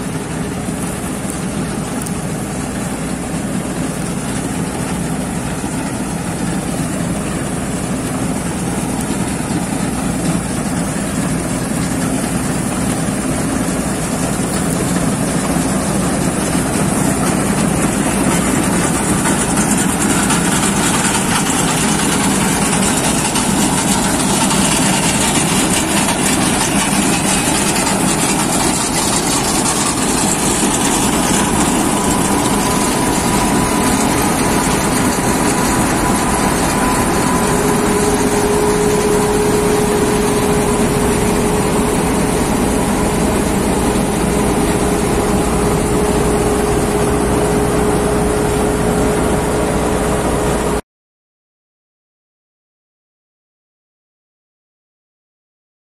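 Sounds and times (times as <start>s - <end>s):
combine harvester running: 0.0s - 50.8s.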